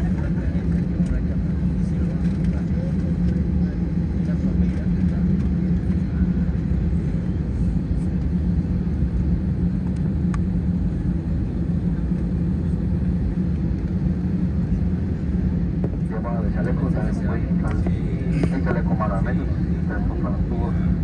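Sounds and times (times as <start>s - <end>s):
airplane cabin engine drone: 0.0s - 21.0s.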